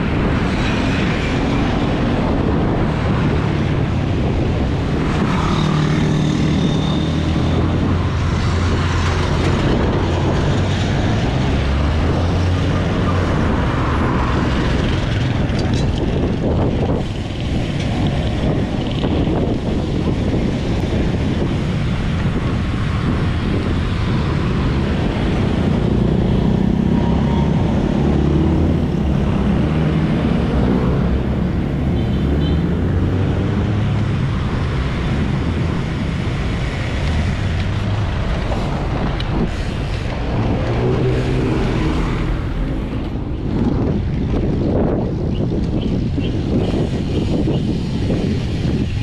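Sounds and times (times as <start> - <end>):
cars and trucks passing: 0.0 - 49.0
wind noise on microphone: 0.0 - 49.0.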